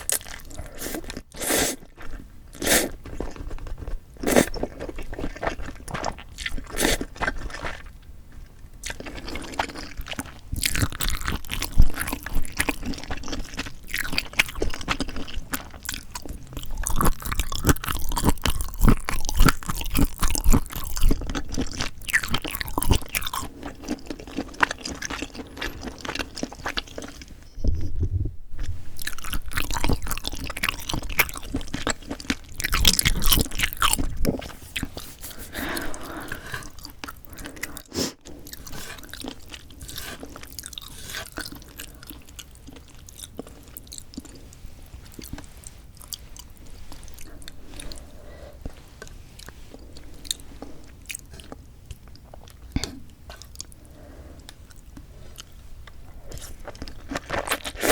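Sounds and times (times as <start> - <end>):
wet chewing and biting: 0.0 - 27.8, 29.0 - 44.4, 54.4 - 57.9.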